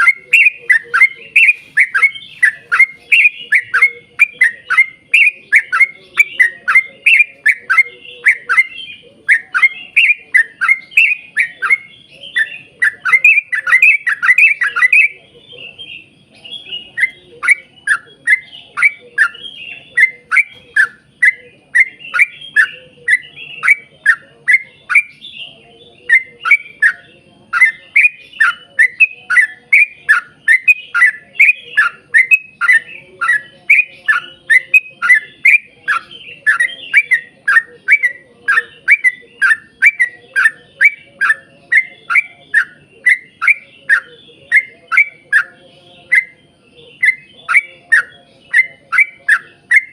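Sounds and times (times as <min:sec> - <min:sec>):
bulbul singing: 0:00.0 - 0:49.9.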